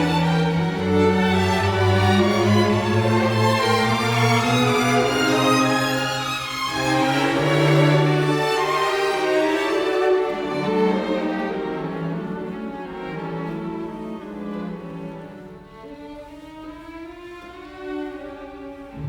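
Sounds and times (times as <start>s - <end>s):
violin and cello playing: 0.0s - 19.0s.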